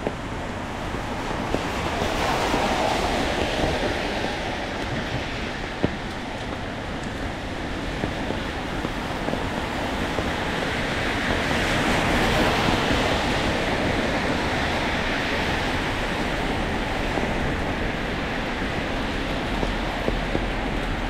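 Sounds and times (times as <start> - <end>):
tyres on wet street: 0.0 - 21.0.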